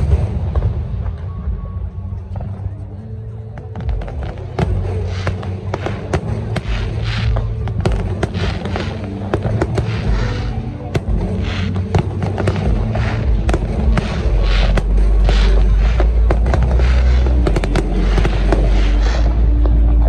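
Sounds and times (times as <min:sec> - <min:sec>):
fireworks bangs and crackles: 0:00.0 - 0:20.0
low rumble: 0:00.0 - 0:20.0.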